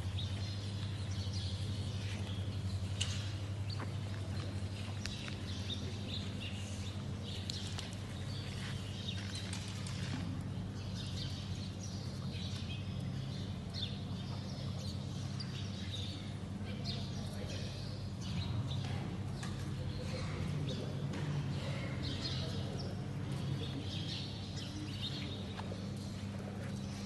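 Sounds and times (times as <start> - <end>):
birds chirping: 0.0 - 27.0
steady low hum: 0.0 - 27.0.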